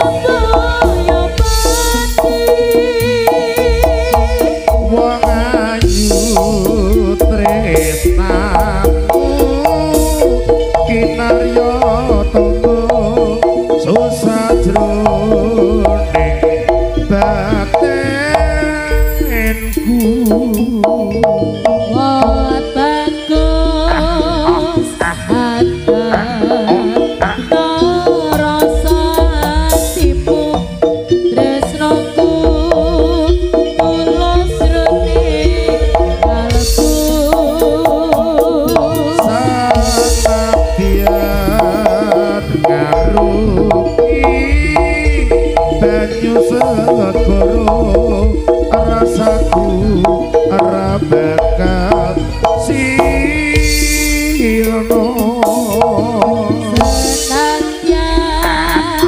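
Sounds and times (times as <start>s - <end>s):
gongs and metallophones: 0.0s - 59.0s
hand drums beating: 0.0s - 59.0s
wavering melody line: 0.0s - 59.0s.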